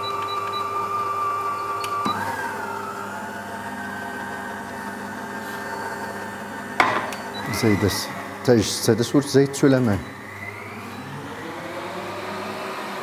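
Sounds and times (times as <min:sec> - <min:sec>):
stand mixer motor whine: 0:00.0 - 0:13.0.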